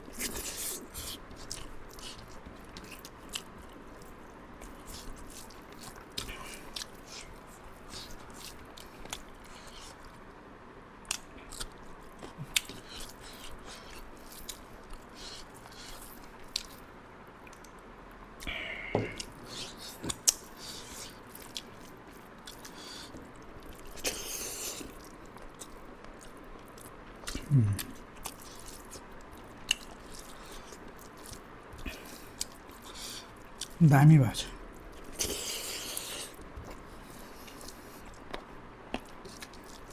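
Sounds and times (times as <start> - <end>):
close chewing and biting: 0.0 - 10.3, 11.0 - 17.8, 18.4 - 33.8, 34.6 - 39.9.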